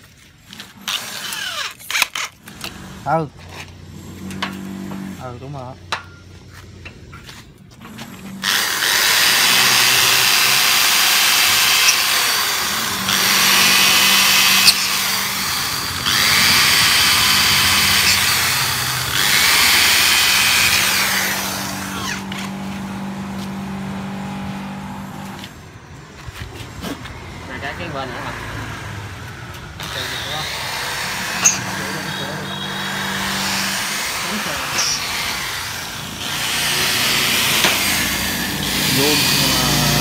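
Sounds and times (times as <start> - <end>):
power tool cutting aluminium: 0.5 - 6.0, 7.8 - 25.5, 29.6 - 40.0.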